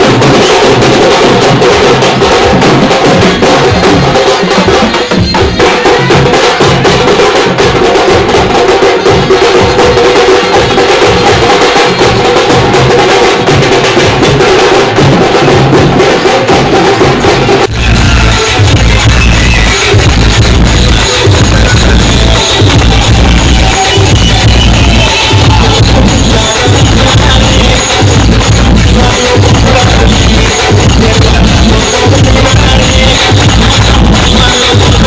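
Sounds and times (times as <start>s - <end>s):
drum band playing fast rhythm: 0.0s - 35.0s.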